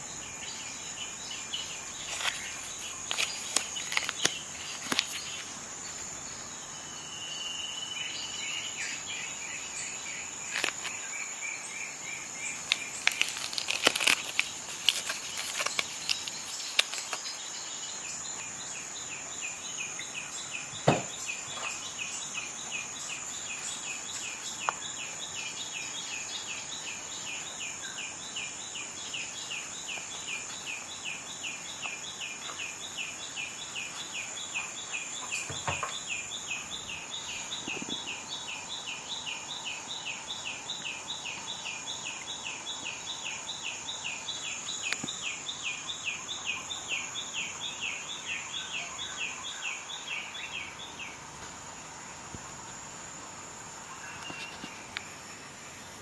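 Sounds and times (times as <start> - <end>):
constant hiss: 0.0 - 56.0.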